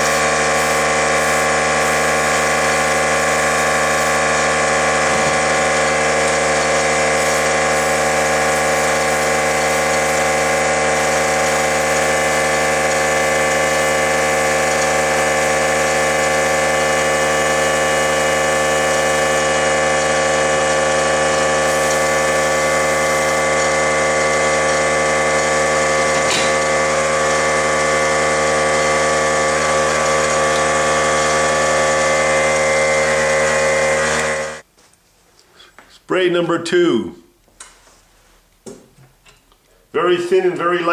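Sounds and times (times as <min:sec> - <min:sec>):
spray gun hissing: 0:00.0 - 0:34.6
air compressor humming: 0:00.0 - 0:34.7.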